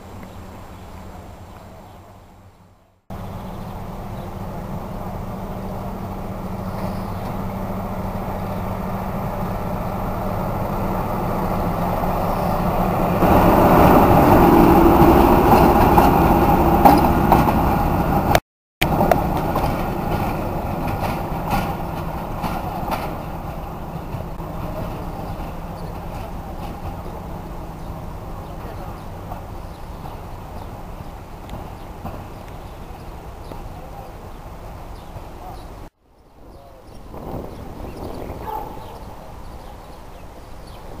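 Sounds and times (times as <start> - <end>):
diesel locomotive engine passing: 0.0 - 41.0.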